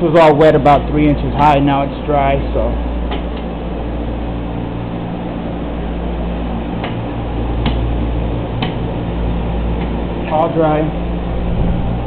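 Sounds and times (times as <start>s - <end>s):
drying equipment humming: 0.0s - 12.0s.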